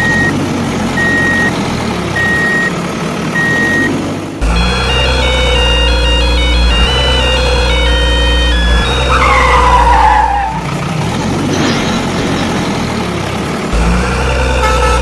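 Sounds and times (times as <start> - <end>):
engine-like rumble: 0.0 - 15.0.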